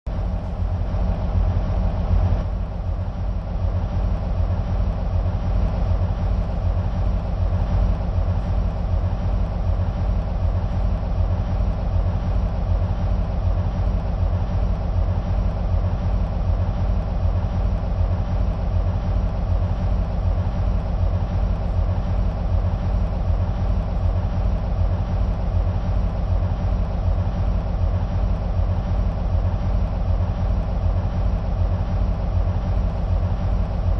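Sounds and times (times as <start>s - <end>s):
diesel locomotive engine idling: 0.1s - 33.9s.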